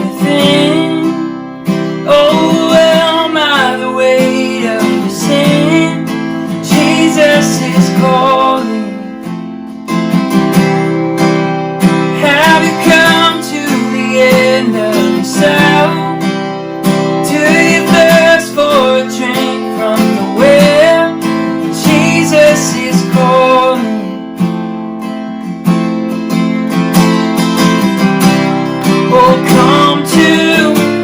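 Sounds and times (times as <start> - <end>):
strummed acoustic guitar song: 0.0 - 31.0.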